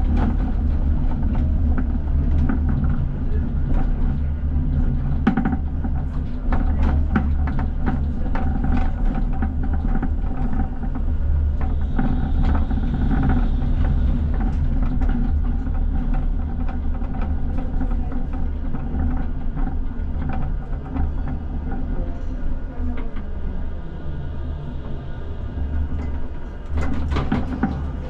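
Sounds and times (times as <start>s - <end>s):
wheels clicking on track: 0.0s - 23.7s
tram traction hum: 0.0s - 28.0s.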